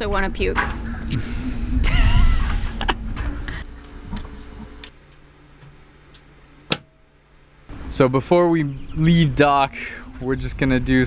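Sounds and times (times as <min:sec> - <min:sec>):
electric motor hum: 0:00.0 - 0:11.0
faint high whine: 0:00.0 - 0:11.0
short wavering whine: 0:00.0 - 0:11.0.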